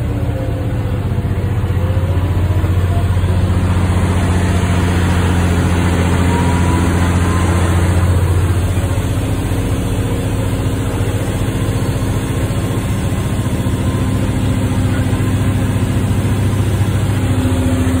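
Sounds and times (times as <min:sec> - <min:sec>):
truck diesel engine humming: 0:00.0 - 0:18.0.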